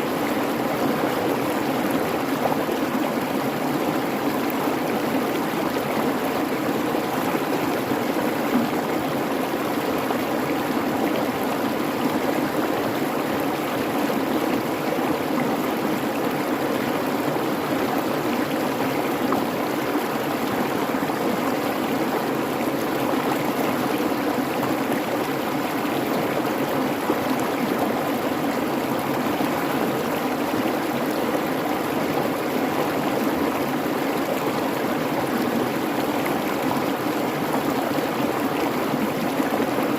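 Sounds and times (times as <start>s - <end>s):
creek babbling: 0.0s - 39.9s.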